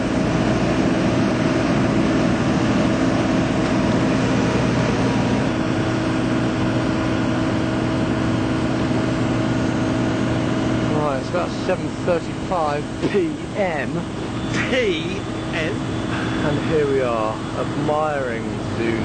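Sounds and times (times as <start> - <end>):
machine engine drone: 0.0 - 19.0.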